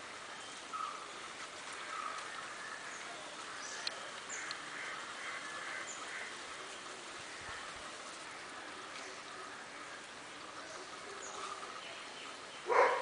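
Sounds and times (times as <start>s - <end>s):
birds calling: 0.0s - 13.0s
steady outdoor hiss: 0.0s - 13.0s.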